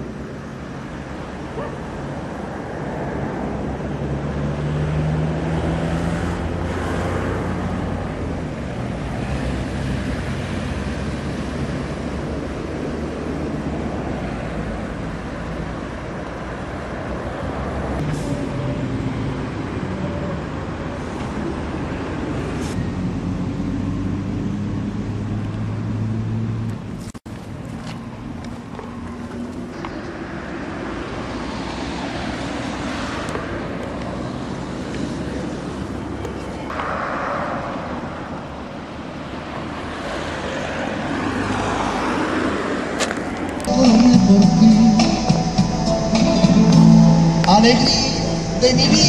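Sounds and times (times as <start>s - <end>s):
cars passing on road: 0.0s - 49.0s.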